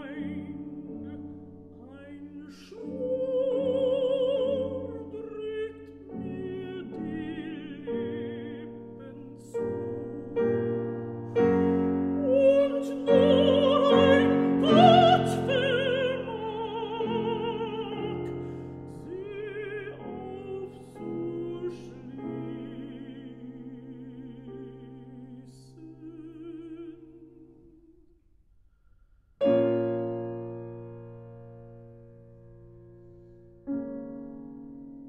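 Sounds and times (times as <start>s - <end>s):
piano accompaniment: 0.0s - 27.7s, 29.4s - 35.0s
operatic soprano singing: 0.0s - 28.1s.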